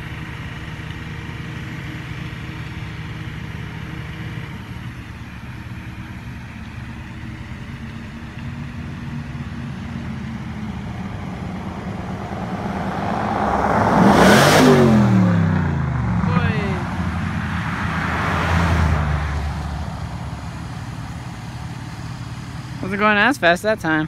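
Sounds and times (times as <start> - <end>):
pickup truck engine drone: 0.0 - 24.0.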